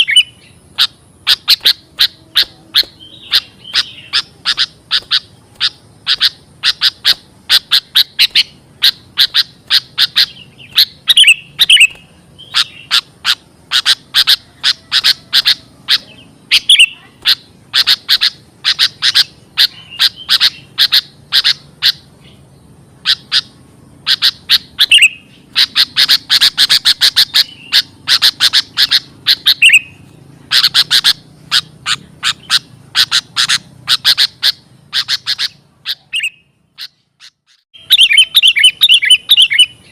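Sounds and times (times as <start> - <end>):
bird scratchy chirps: 0.0 - 39.9.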